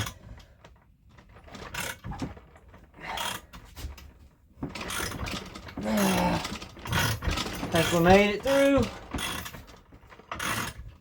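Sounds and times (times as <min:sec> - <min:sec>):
thread tap creaking and scraping: 0:00.0 - 0:11.0.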